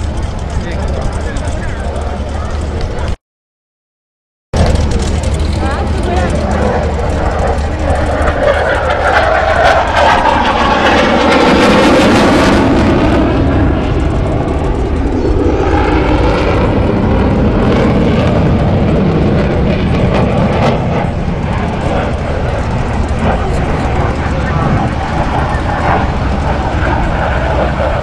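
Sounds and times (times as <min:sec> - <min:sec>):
airplane engine passing: 0:00.0 - 0:03.2, 0:04.6 - 0:28.0.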